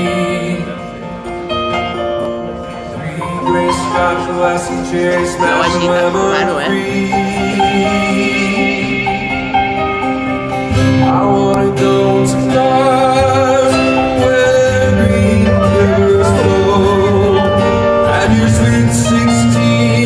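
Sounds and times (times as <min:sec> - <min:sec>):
bass guitar: 0:00.0 - 0:20.0
sustained keyboard chords: 0:00.0 - 0:20.0.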